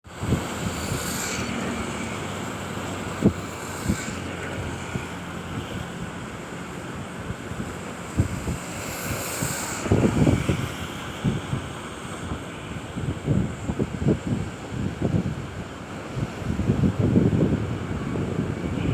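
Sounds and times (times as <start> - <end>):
wind buffeting microphone: 0.0 - 18.9
water rushing: 0.1 - 18.9.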